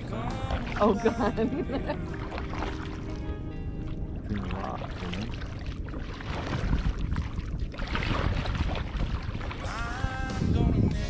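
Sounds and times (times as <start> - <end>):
paddle splashing in water: 0.0 - 10.2.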